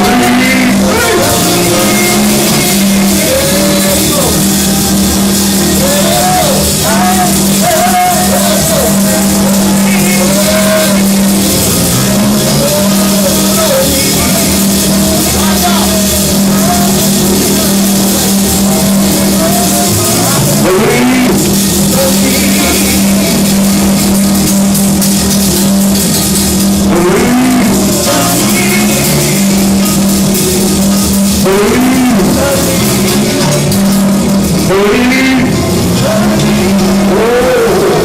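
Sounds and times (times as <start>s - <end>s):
drums: 0.0s - 38.0s
held low note: 0.0s - 38.0s
person singing: 0.0s - 38.0s
praise band music: 0.0s - 38.0s.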